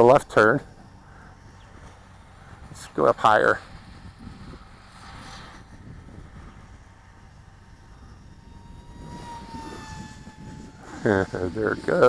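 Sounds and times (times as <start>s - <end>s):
distant model airplane motor whine: 0.0s - 12.0s
wind rumbling on microphone: 0.0s - 12.0s.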